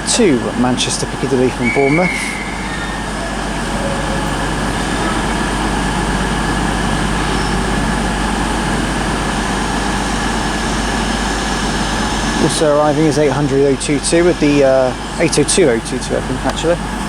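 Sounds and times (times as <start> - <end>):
thin whine: 0.0 - 16.8
diesel train engines running: 0.0 - 17.0.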